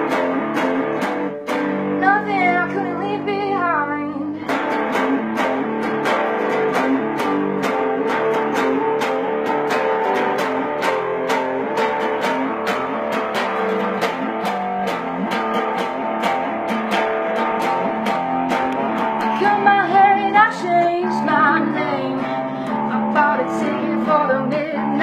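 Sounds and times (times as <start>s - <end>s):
rock guitar playing: 0.0s - 25.0s.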